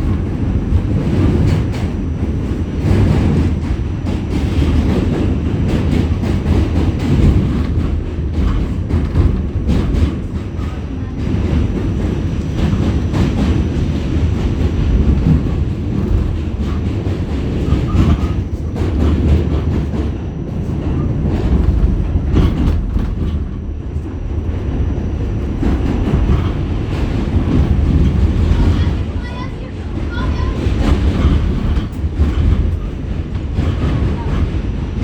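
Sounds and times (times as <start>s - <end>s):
subway train rumbling on rails: 0.0s - 35.0s.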